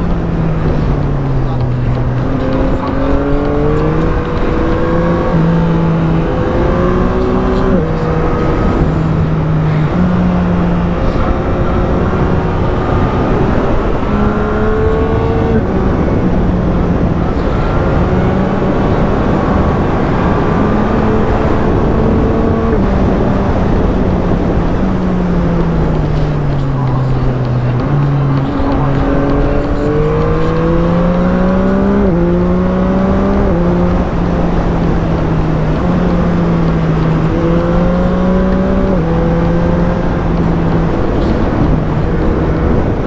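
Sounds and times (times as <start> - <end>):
motorcycle engine accelerating: 0.0 - 43.0
wind rush: 0.0 - 43.0.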